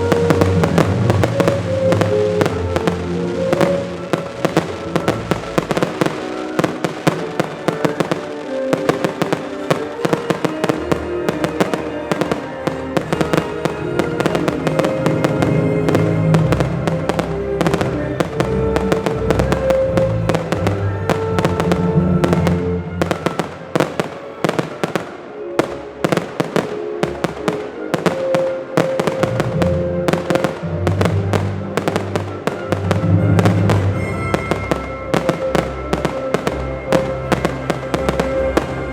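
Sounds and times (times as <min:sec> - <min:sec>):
fireworks bangs and crackles: 0:00.0 - 0:38.9
music over loudspeakers: 0:00.0 - 0:38.9.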